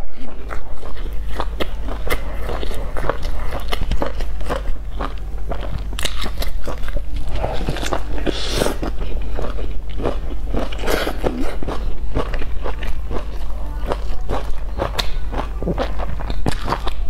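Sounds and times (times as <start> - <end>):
crunchy chewing: 0.0 - 17.0
low hum: 0.0 - 17.0.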